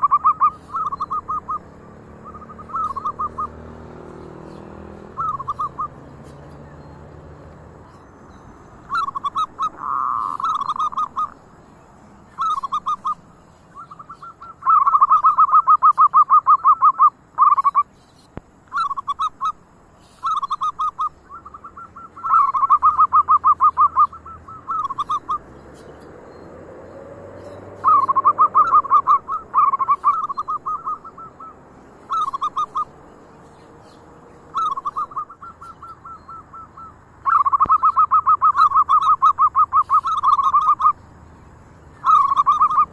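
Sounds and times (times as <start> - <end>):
doves cooing: 0.0 - 8.2, 8.8 - 11.6, 12.2 - 17.9, 18.6 - 41.0, 41.9 - 42.9.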